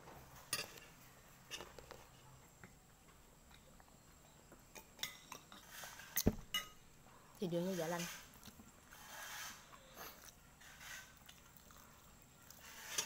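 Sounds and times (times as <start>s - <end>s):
quiet eating sounds: 0.0s - 13.0s.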